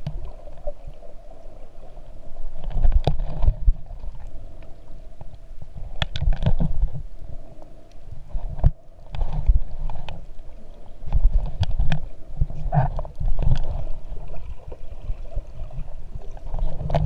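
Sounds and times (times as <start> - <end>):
water sloshing underwater: 0.0 - 17.0.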